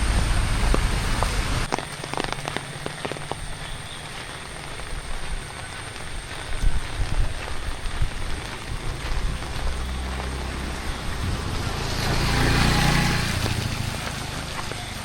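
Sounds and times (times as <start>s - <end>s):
motor vehicle approaching: 0.0s - 15.0s.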